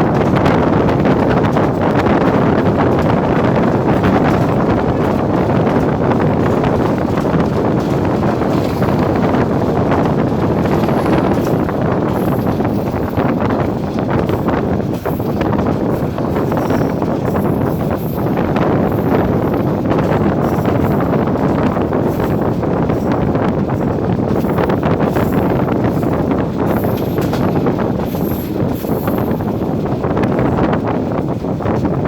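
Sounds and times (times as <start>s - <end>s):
train rumbling: 0.0s - 32.0s
wind buffeting microphone: 0.0s - 32.0s.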